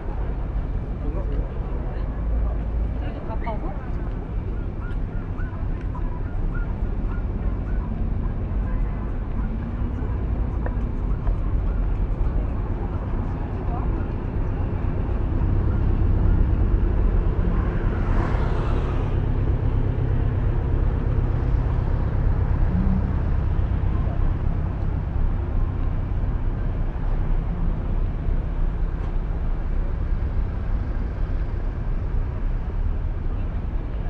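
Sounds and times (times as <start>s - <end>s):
traffic rumble: 0.0s - 34.0s.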